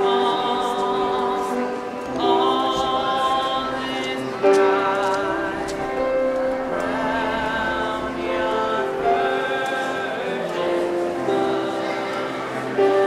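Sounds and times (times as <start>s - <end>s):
group singing holiday song: 0.0s - 13.0s
musical accompaniment: 0.0s - 13.0s.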